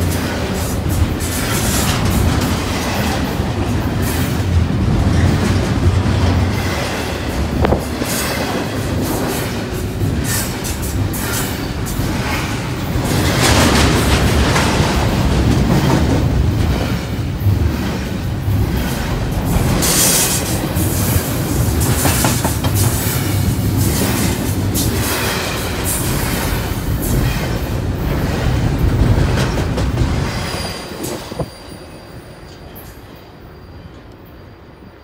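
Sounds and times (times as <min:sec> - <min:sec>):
freight train wheels clattering: 0:00.0 - 0:33.0.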